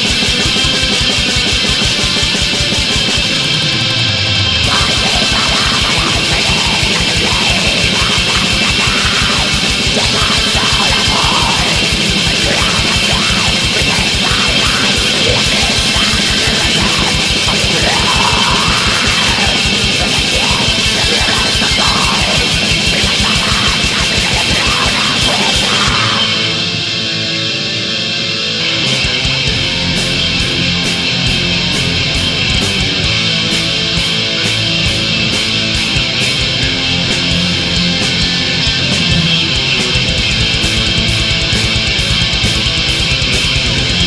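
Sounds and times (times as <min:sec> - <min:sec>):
fast pounding drums: 0:00.0 - 0:26.6, 0:29.1 - 0:44.0
distorted guitars: 0:00.0 - 0:44.0.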